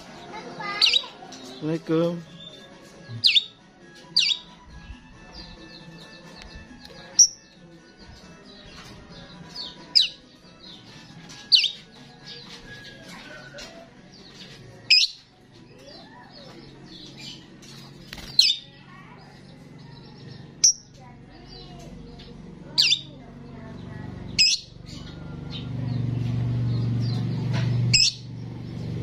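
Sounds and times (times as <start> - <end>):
starling chattering song: 0.0 - 29.0.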